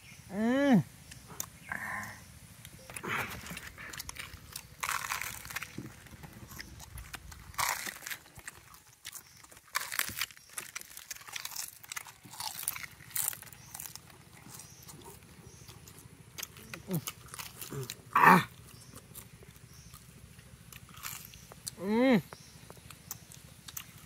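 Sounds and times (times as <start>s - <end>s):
chewing: 1.1s - 24.0s
crunching crisp bread: 2.6s - 24.0s.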